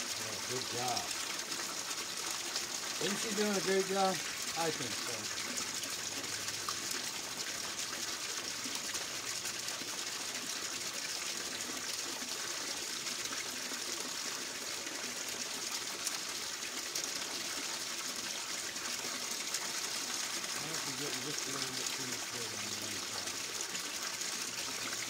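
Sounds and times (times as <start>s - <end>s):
water rushing and splashing: 0.0s - 25.0s.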